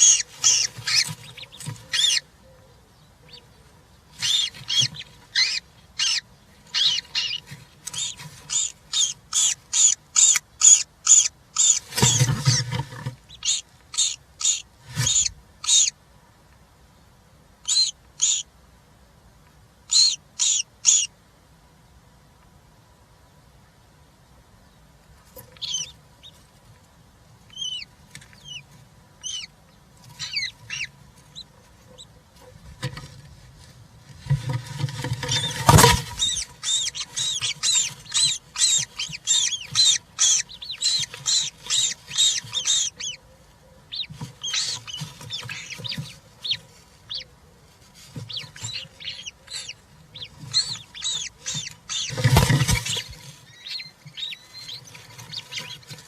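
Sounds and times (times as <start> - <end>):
bird chicks calling: 0.0 - 16.0, 17.6 - 18.6, 19.8 - 21.2, 25.2 - 33.2, 34.4 - 56.0.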